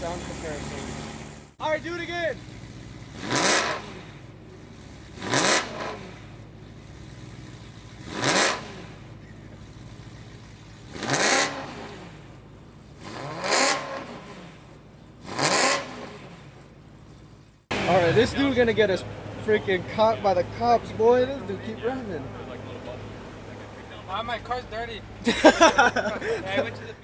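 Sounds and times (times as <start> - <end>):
car engine idling: 0.0 - 27.0
car engine revving: 0.0 - 27.0.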